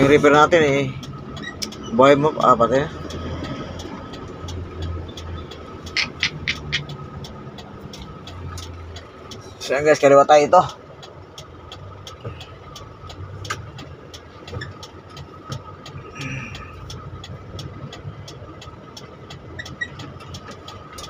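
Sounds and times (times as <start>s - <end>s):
turn signal ticking: 0.0s - 21.0s
vehicle engine running low: 0.0s - 21.0s.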